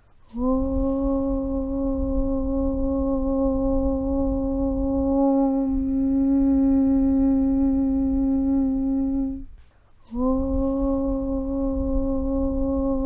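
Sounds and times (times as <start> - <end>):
person humming a low chant: 0.2 - 13.0.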